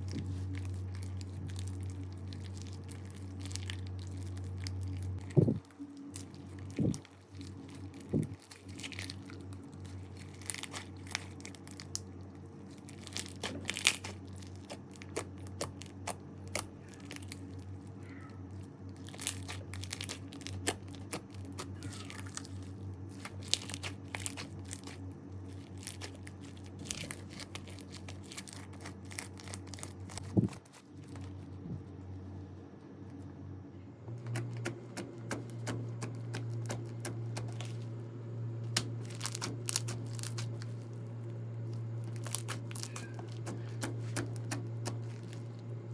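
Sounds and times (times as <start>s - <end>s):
slime crackling and popping: 0.0s - 31.4s, 35.3s - 37.9s, 38.6s - 45.6s.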